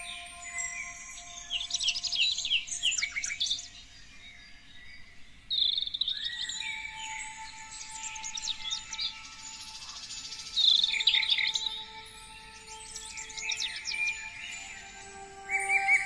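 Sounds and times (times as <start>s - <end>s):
songbirds singing and chirping: 0.0s - 16.0s.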